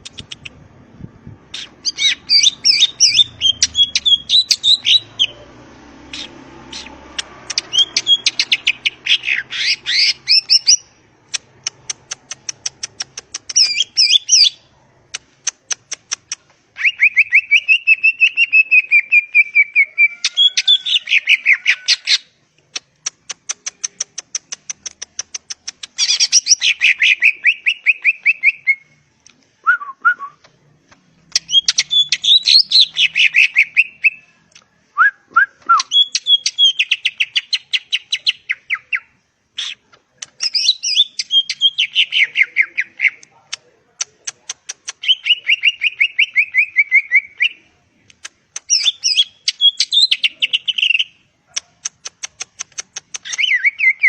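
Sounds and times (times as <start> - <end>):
bird singing warbled phrases: 0.0 - 29.0, 30.4 - 34.3, 35.7 - 54.0.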